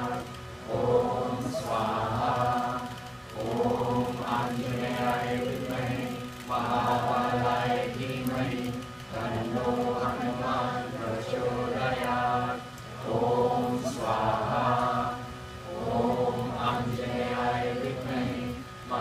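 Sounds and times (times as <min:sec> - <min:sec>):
group of voices chanting: 0:00.0 - 0:19.0.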